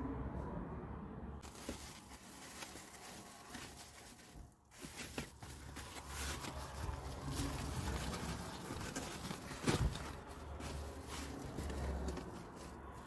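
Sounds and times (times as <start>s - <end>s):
foil blind rustling and crinkling: 1.4s - 13.0s.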